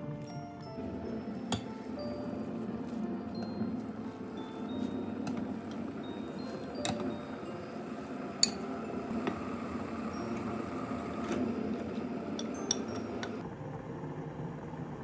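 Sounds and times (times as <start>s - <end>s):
utensils clinking on dishes: 0.7s - 13.4s.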